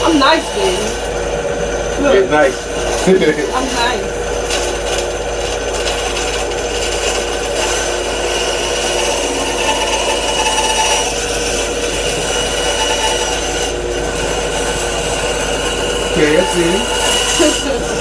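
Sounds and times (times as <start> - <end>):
band saw cutting wood: 0.0 - 18.0.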